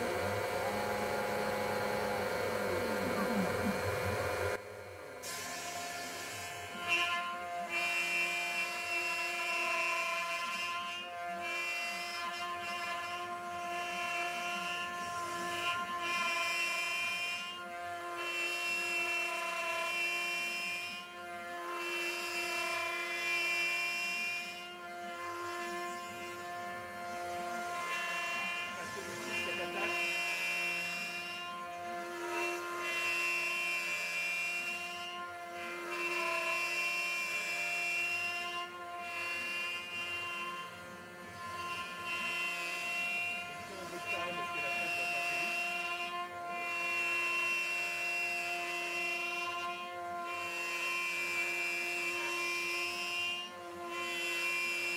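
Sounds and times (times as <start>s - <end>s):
router cutting wood whine: 0.0s - 54.9s.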